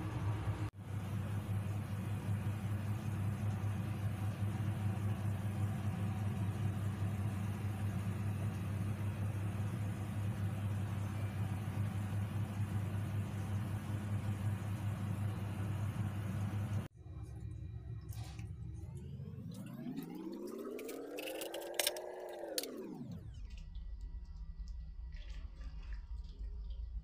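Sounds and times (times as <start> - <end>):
motor humming: 0.0 - 23.6.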